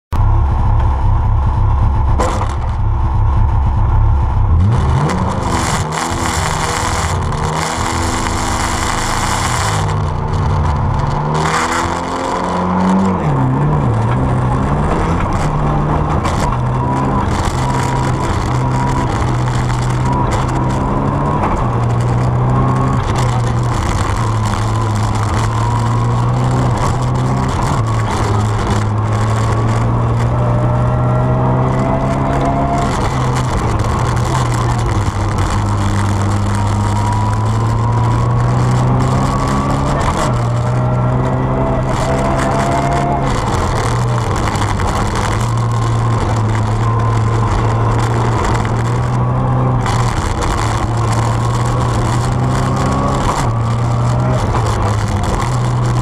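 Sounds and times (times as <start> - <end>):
rally car engine revving: 0.2 - 56.0.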